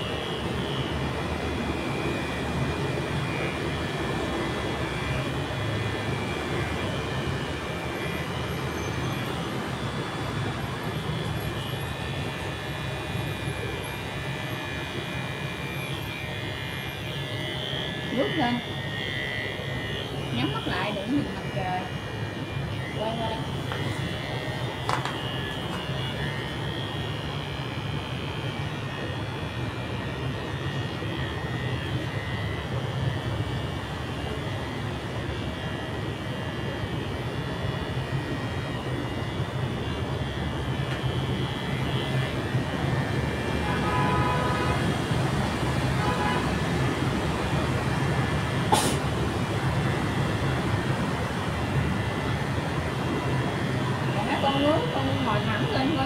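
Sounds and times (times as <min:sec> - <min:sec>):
electric hair clippers buzzing: 0:00.0 - 0:56.0.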